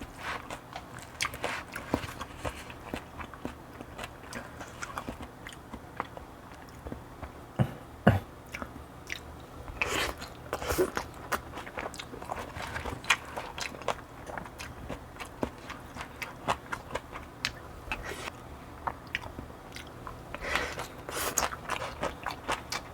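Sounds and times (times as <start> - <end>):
wet chewing and mouth clicks: 0.2 - 7.4, 8.5 - 22.9.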